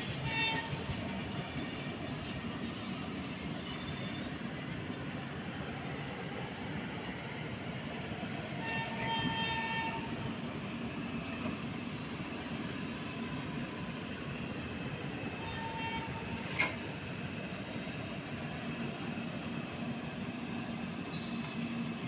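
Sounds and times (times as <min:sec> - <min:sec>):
train coaches rolling past: 0:00.0 - 0:22.0.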